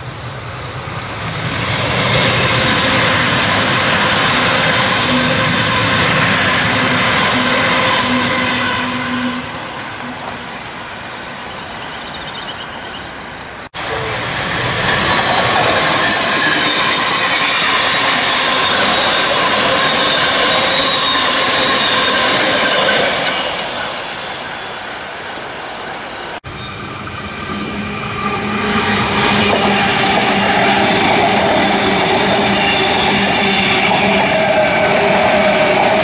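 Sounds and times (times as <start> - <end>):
electric train passing on rails: 0.0 - 36.0.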